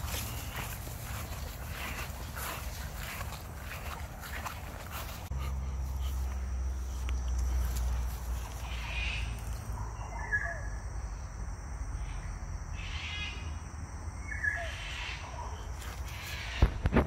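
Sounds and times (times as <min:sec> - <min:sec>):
wild birds chirping: 0:00.0 - 0:16.8.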